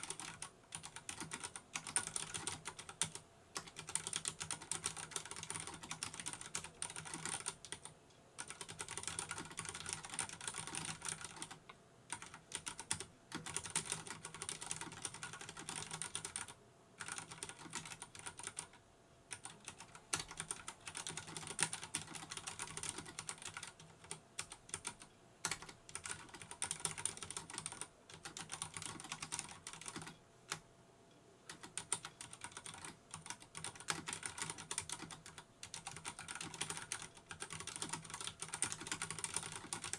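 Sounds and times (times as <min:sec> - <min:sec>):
fast typing on mechanical keyboard: 0:00.0 - 0:30.2, 0:31.5 - 0:39.9.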